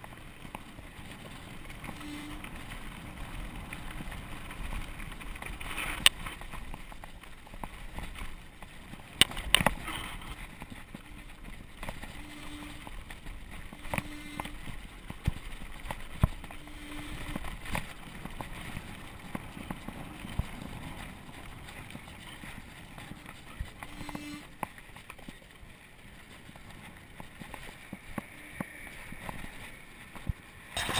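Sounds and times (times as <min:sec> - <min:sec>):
bike knocking and rattling on bumps: 0:00.0 - 0:30.9
bike tyres rolling on gravel: 0:00.0 - 0:30.9
wind noise on microphone: 0:00.0 - 0:30.9.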